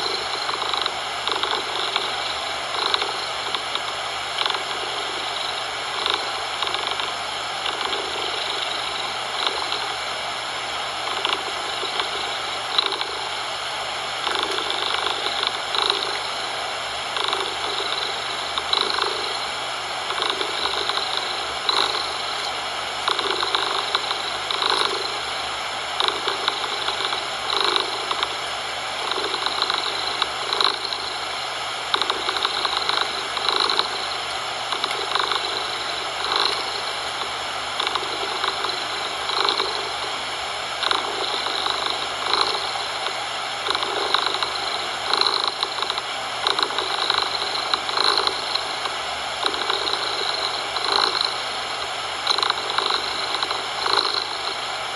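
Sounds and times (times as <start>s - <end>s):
cat purring: 0.0s - 10.0s, 11.0s - 13.4s, 14.2s - 25.4s, 26.0s - 40.2s, 40.8s - 54.6s
steady noise hiss: 0.0s - 54.9s.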